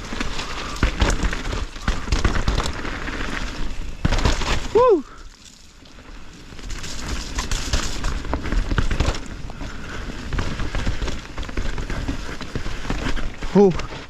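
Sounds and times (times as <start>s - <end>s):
bike frame and chain rattling: 0.0s - 14.0s
tyres on wet dirt: 0.0s - 14.0s.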